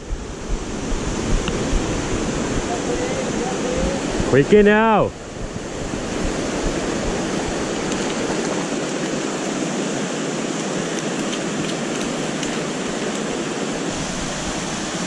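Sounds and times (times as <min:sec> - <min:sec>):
river rushing over rocks: 0:00.2 - 0:15.0.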